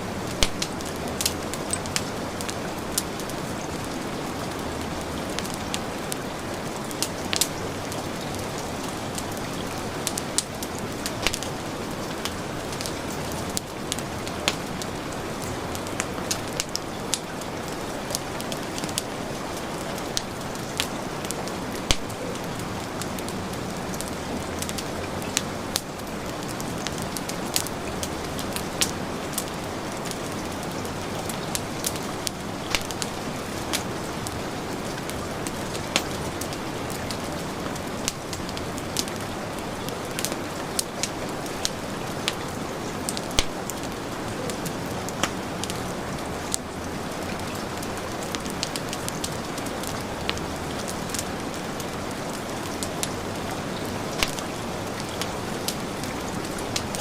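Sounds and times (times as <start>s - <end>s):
heavy rain: 0.0s - 57.0s
wood fire crackling and popping: 0.0s - 57.0s.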